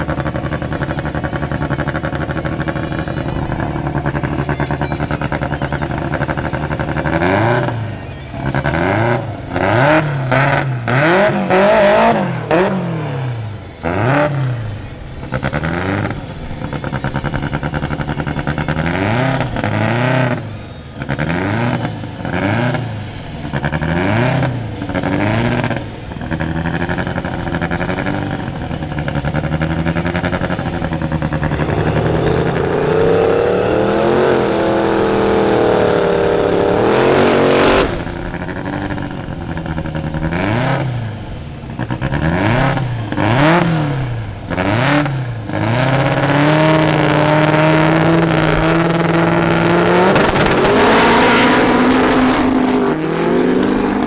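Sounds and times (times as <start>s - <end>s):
racing engines revving: 0.0s - 54.0s.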